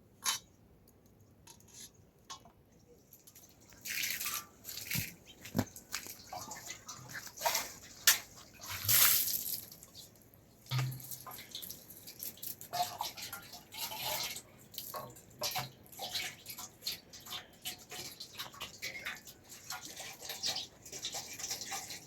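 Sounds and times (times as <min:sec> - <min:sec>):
water splashing and dripping: 0:01.5 - 0:22.0.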